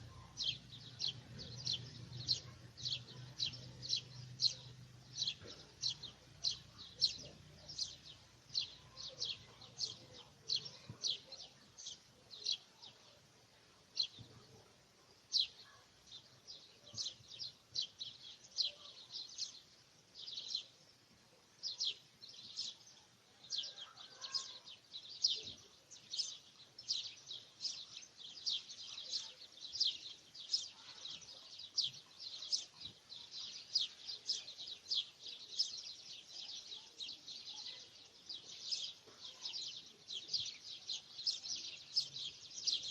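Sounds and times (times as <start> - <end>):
birds chirping: 0.0 - 13.2, 21.6 - 42.9.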